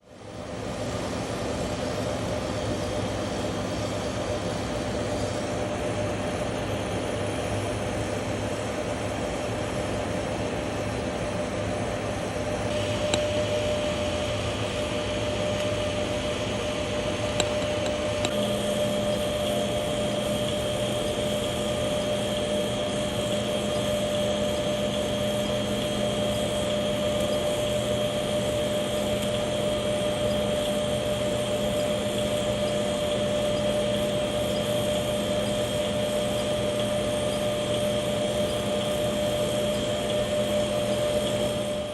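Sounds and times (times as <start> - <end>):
welding equipment hiss and hum: 0.1 - 41.9.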